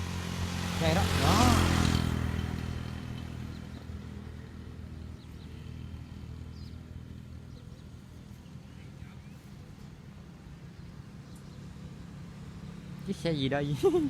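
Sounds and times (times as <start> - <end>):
distant road traffic rumble: 0.0 - 14.0
vehicle passing: 0.0 - 14.0.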